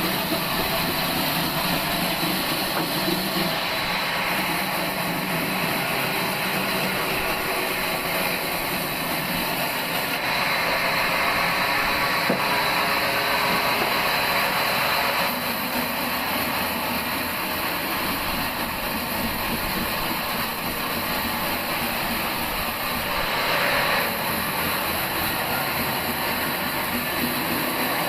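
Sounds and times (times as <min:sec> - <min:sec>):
bandsaw machine running: 0:00.0 - 0:28.0.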